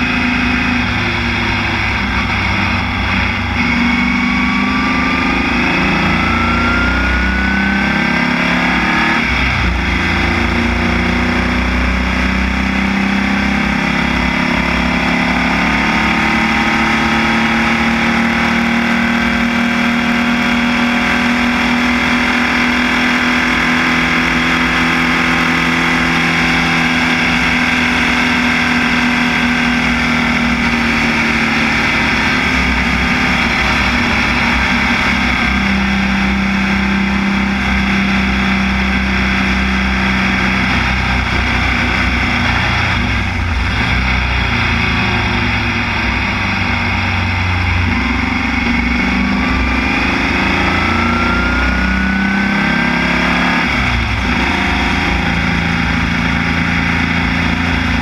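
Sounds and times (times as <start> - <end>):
racing car engine accelerating: 0.0 - 58.0.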